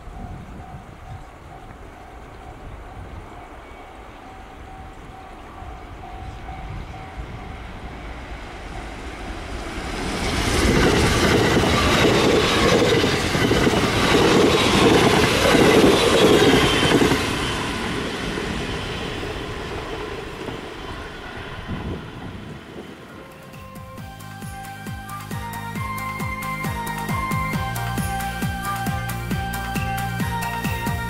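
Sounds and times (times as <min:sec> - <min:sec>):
electric train passing at speed: 0:00.0 - 0:31.0.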